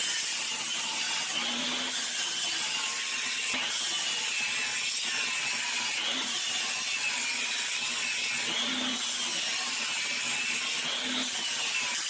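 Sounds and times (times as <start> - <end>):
belt grinder grinding metal: 0.0 - 12.0.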